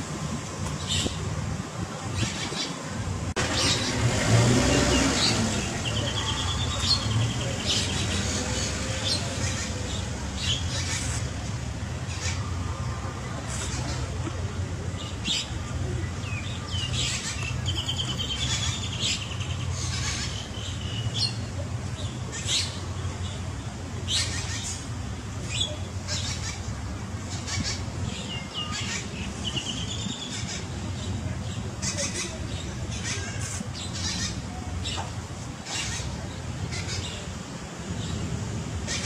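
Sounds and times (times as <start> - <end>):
birds chirping and squawking: 3.4 - 12.8, 13.4 - 14.3, 15.0 - 23.4, 24.0 - 38.2, 38.8 - 39.0.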